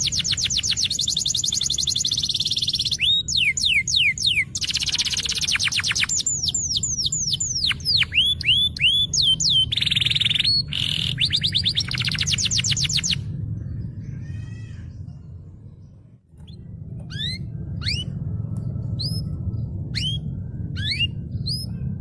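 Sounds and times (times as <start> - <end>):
canary singing: 0.0 - 22.0
steady low hum: 0.0 - 22.0.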